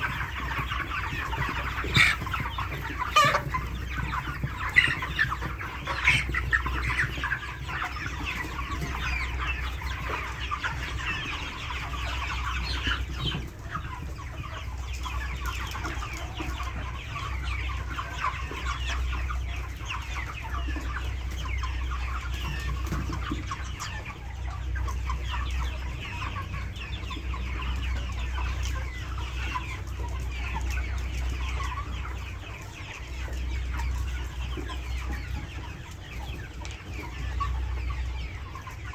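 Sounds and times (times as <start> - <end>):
chickens clucking and peeping: 0.0 - 38.9.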